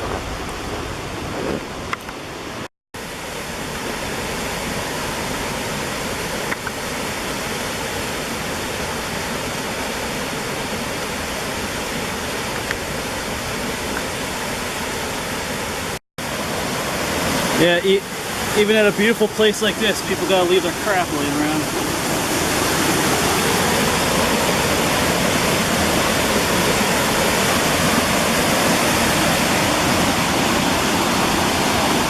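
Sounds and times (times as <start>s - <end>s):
small waterfall rushing: 2.2s - 32.0s.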